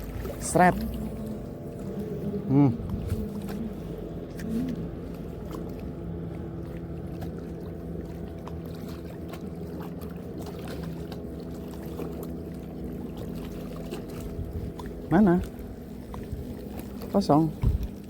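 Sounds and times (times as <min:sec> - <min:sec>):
boat engine running at low revs: 0:00.0 - 0:18.0.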